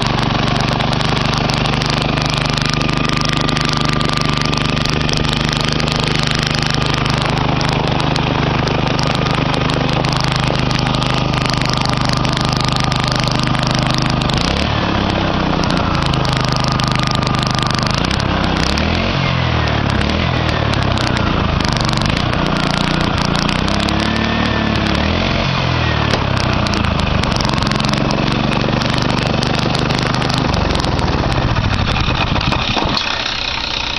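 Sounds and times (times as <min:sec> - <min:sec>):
small engine revving: 0:00.0 - 0:33.9.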